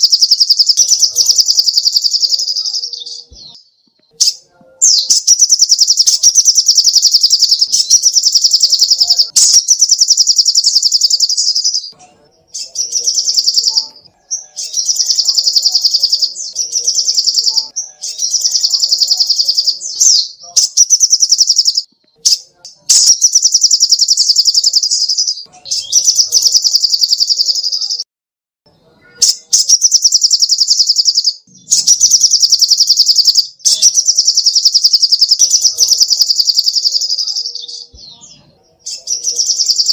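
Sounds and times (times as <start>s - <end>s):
bird singing high-pitched trills: 0.0s - 28.0s, 29.1s - 39.9s.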